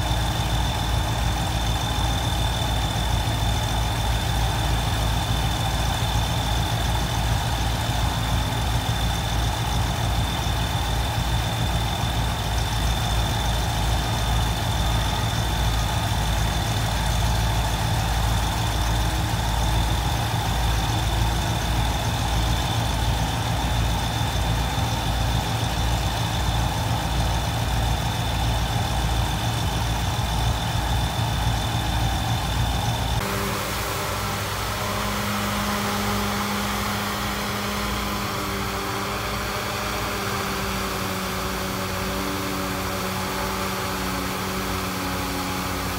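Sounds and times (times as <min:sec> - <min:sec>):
heavy diesel engines droning: 0:00.0 - 0:45.9.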